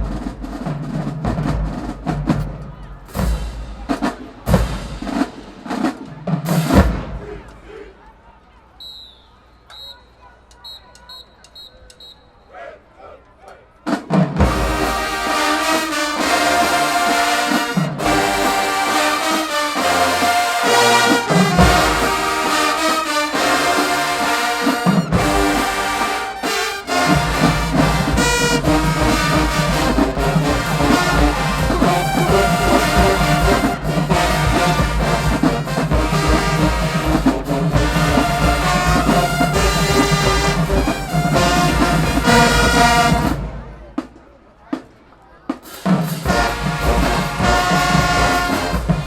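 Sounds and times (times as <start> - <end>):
marching band playing: 0.0 - 7.9, 13.8 - 49.0
low brass and drums: 0.0 - 8.1, 11.5 - 49.0.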